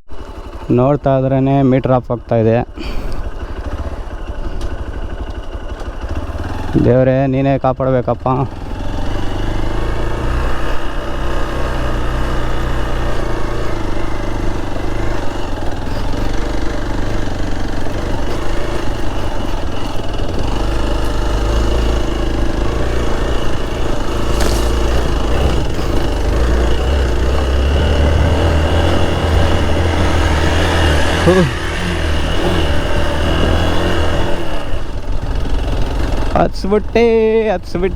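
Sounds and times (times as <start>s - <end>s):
motorcycle engine under load: 0.0s - 37.9s.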